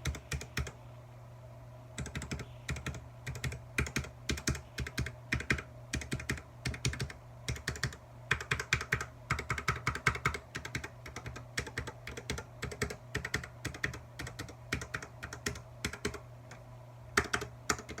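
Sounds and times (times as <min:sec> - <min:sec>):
mechanical keyboard typing: 0:00.0 - 0:00.8, 0:02.0 - 0:16.6, 0:17.2 - 0:18.0
steady low hum: 0:00.0 - 0:18.0.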